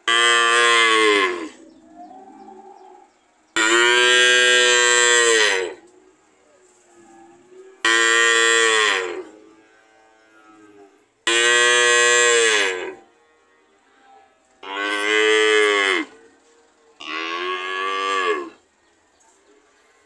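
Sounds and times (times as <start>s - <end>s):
cattle mooing: 0.0s - 5.9s, 6.8s - 13.2s, 13.8s - 16.4s, 17.0s - 18.6s.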